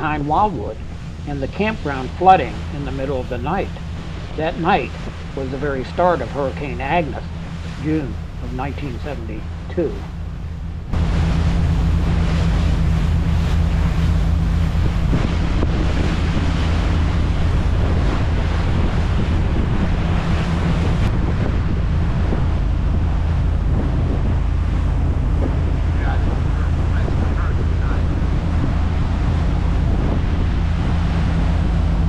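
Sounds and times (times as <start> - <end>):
diesel engine droning: 0.0 - 32.0
water rushing past hull: 0.0 - 32.0
wind noise on microphone: 0.0 - 32.0.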